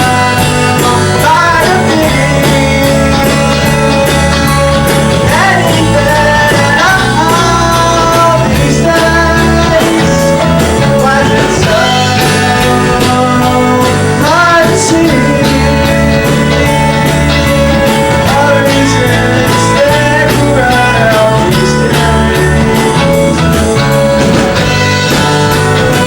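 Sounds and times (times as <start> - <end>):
person singing: 0.0 - 26.0
rock band playing: 0.0 - 26.0.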